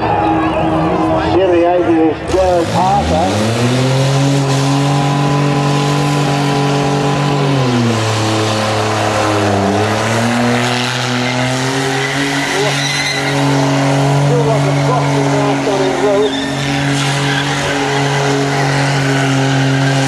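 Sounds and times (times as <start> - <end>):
car engine revving high: 2.1 - 20.0.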